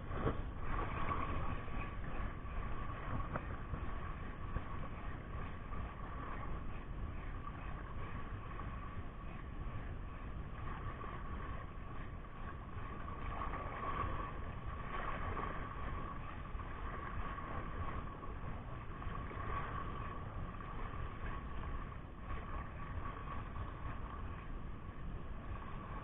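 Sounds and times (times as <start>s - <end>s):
thin steady tone: 0.0s - 26.0s
wind buffeting microphone: 0.0s - 26.0s.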